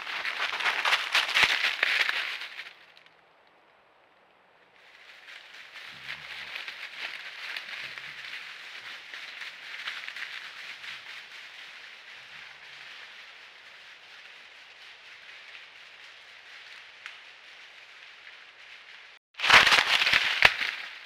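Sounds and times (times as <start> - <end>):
rustling through dry grass: 0.0 - 3.2, 4.8 - 21.0.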